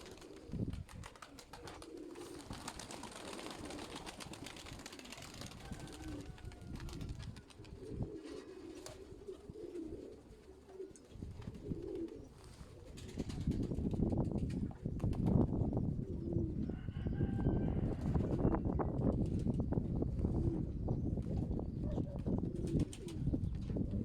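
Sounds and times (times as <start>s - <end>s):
pigeons cooing: 0.0s - 13.8s, 15.7s - 17.2s, 19.9s - 24.0s.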